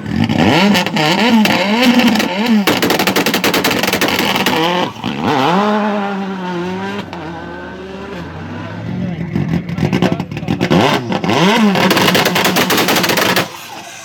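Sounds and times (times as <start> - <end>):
exhaust bangs and crackles: 0.0 - 7.3, 8.9 - 14.0
car engine revving: 0.0 - 14.0.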